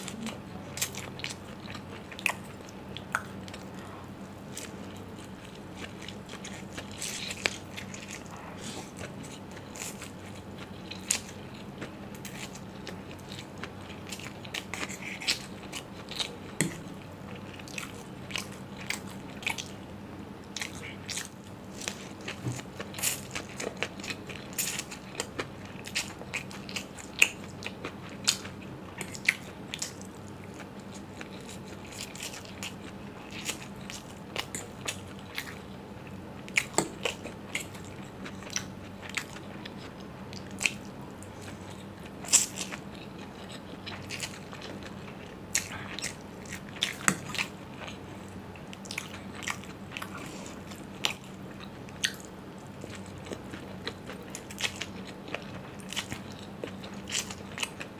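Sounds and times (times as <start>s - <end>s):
person chewing noodles: 0.0s - 19.8s, 20.5s - 57.9s.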